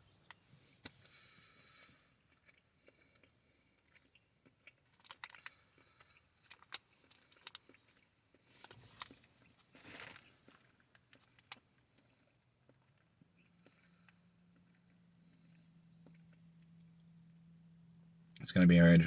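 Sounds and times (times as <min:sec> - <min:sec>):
chewing gummies: 0:00.2 - 0:17.1.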